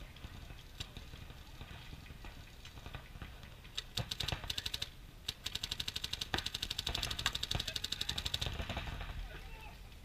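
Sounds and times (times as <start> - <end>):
paintball markers firing: 0.2 - 9.3.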